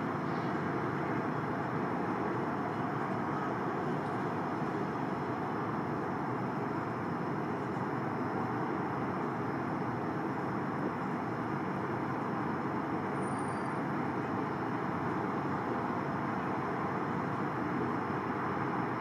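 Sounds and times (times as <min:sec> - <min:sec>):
distant jet engines at takeoff: 0:00.0 - 0:19.0
faint constant hum: 0:00.0 - 0:19.0.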